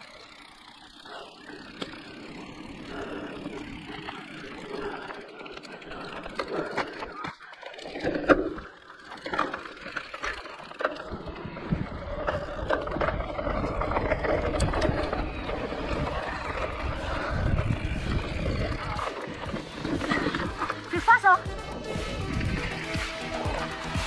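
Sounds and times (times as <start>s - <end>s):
bike tyres crunching over trail: 0.0s - 24.0s.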